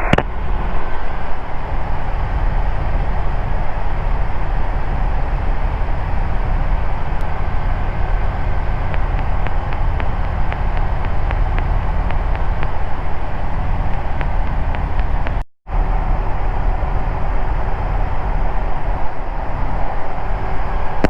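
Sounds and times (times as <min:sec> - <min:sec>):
microlight engine drone in cockpit: 0:00.0 - 0:21.0.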